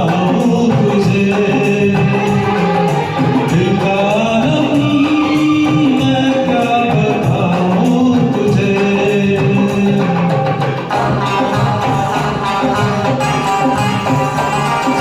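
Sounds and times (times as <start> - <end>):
man singing karaoke: 0.0 - 15.0
recorded backing track: 0.0 - 15.0.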